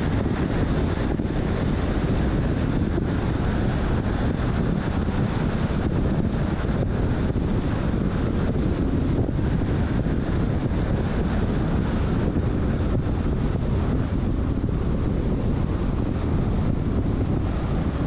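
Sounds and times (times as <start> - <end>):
car wind and road noise: 0.0 - 18.0
wind buffeting microphone: 0.0 - 18.0.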